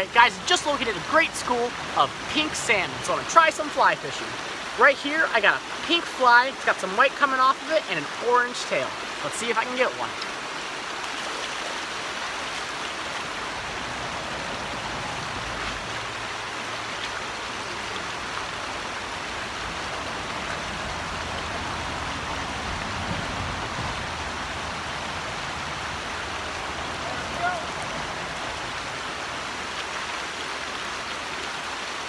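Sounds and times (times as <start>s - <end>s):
creek running over rocks: 0.0s - 32.0s.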